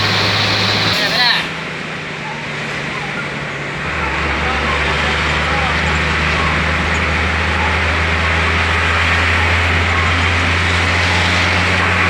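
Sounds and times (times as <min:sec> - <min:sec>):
bus engine drone: 0:00.0 - 0:12.0
road noise hiss: 0:00.0 - 0:12.0.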